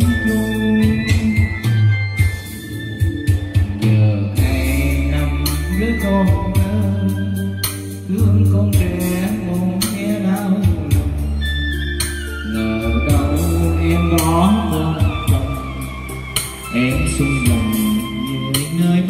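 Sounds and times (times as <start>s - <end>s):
man singing into a microphone: 0.0s - 2.4s, 3.8s - 19.0s
backing track with bass and drums: 0.0s - 19.0s.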